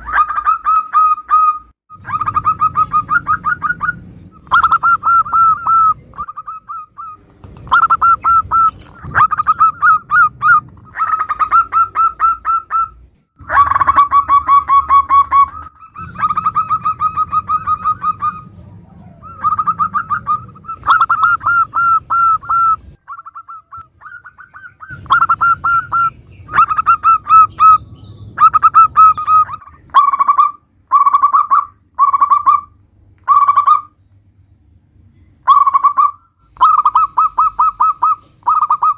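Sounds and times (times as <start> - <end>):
doves cooing: 0.0 - 32.7, 35.5 - 38.9.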